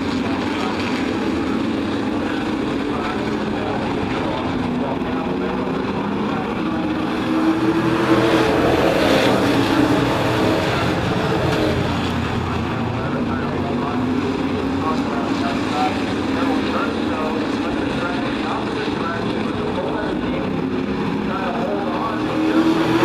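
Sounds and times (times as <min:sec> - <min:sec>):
race truck engines: 0:00.0 - 0:23.0.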